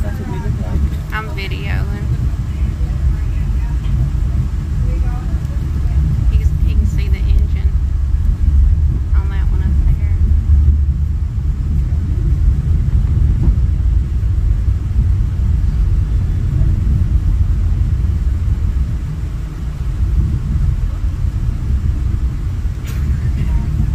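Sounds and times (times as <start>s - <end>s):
train rumbling: 0.0s - 23.9s.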